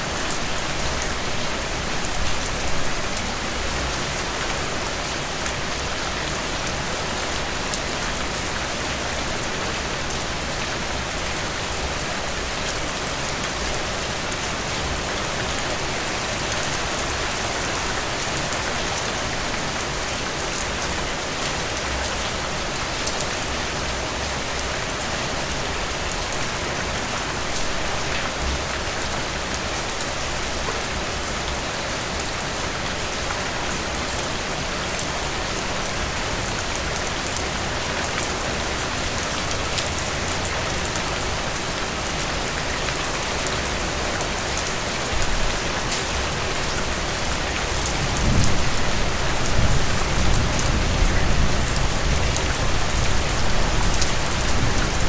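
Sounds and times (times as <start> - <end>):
heavy rain falling and dripping: 0.0 - 55.0.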